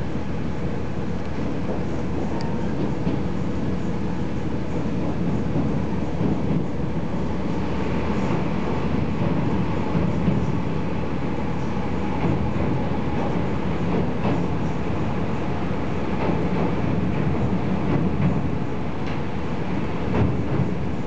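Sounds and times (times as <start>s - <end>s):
diesel railcar running noise: 0.0s - 21.0s.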